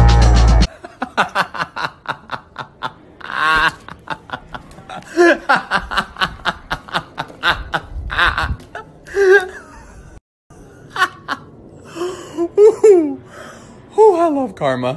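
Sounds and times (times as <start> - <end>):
man laughing hard: 0.7 - 13.2.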